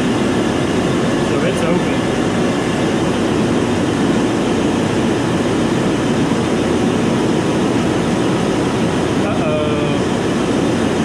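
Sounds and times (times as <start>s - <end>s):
refrigeration compressors humming: 0.0s - 11.0s.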